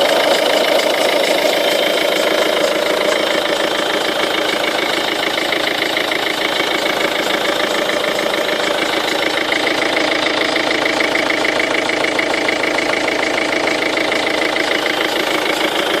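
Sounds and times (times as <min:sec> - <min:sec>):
diesel engine idling: 0:00.0 - 0:16.0
rhythmic pumping noise: 0:00.0 - 0:16.0.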